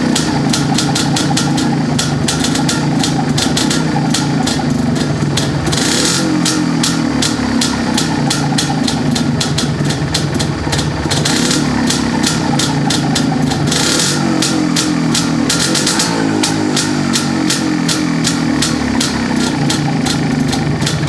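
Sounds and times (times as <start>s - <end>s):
two-stroke motorcycle engine idling: 0.0s - 21.0s.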